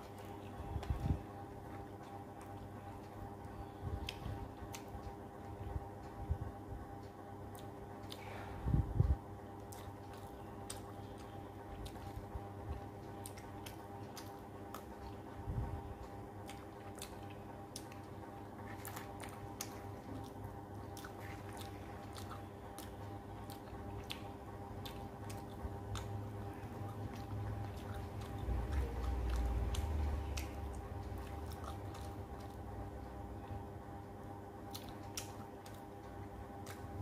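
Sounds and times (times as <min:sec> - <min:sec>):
wet chewing and lip smacks: 0:00.0 - 0:06.3, 0:06.9 - 0:08.3, 0:09.0 - 0:37.0
low steady hum: 0:00.0 - 0:37.0.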